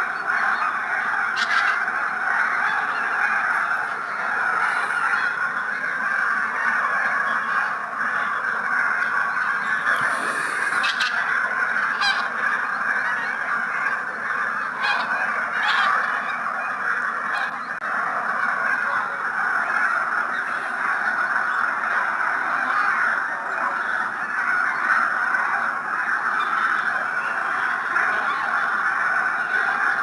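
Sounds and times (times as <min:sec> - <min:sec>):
flock of geese honking: 0:00.0 - 0:30.0
nearer goose calls: 0:00.0 - 0:30.0.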